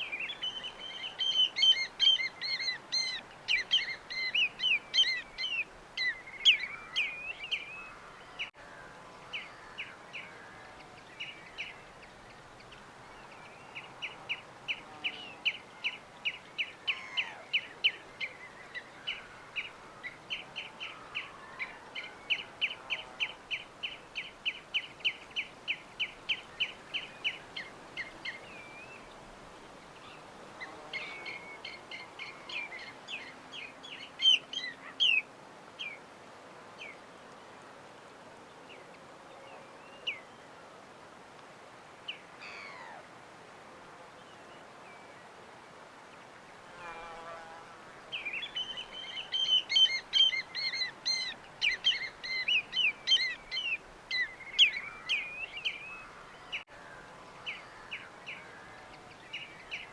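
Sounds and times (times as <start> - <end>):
small songbirds chirping: 0.0 - 41.0, 47.9 - 59.9
faint steady hiss: 0.0 - 59.9.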